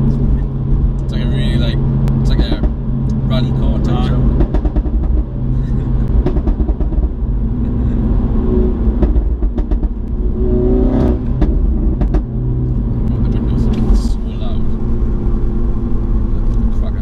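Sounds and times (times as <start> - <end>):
car engine pulling: 0.0 - 17.0
road noise: 0.0 - 17.0.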